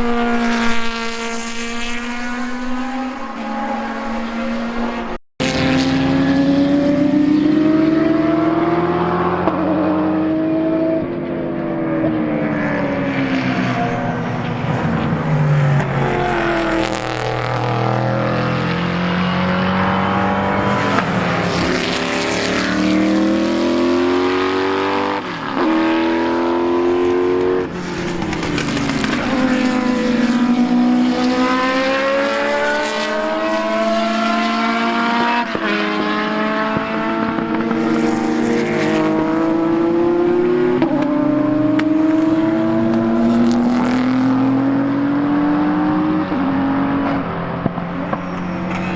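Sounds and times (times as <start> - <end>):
racing cars accelerating past: 0.0 - 48.9.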